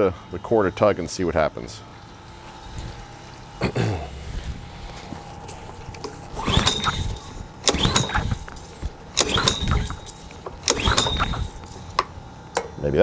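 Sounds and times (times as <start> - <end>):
engine cranking without catching: 1.8 - 13.0
recoil starter rope pulls: 1.8 - 13.0.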